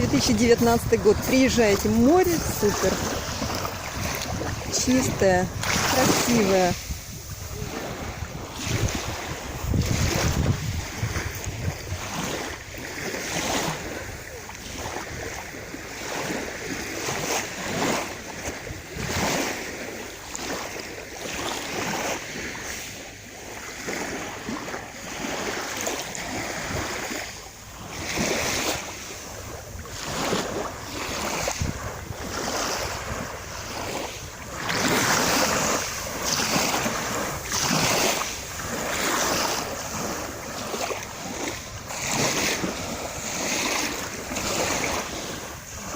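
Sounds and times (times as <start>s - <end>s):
wind buffeting microphone: 0.0s - 19.4s, 27.8s - 45.9s
sea waves washing onto shore: 0.0s - 45.9s.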